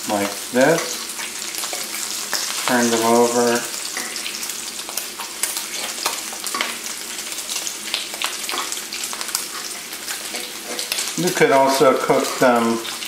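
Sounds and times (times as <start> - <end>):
bacon sizzling and crackling: 0.0 - 13.0.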